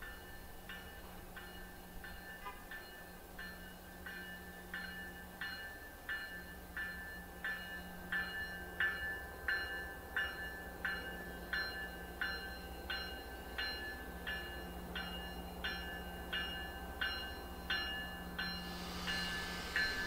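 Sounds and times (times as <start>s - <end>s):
locomotive bell ringing: 0.0s - 20.0s.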